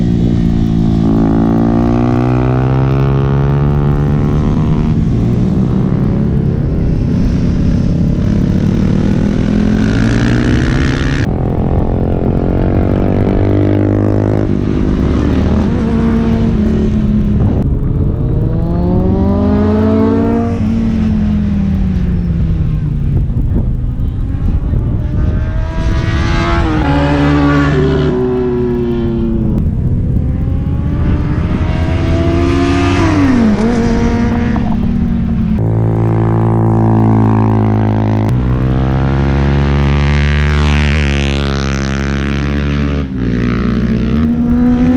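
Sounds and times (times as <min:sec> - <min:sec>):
superbike engines revving: 0:00.0 - 0:44.9.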